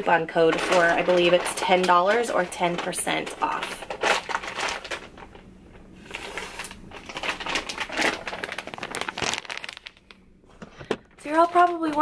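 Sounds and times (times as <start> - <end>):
close rustling and crinkling: 0.0 - 12.0.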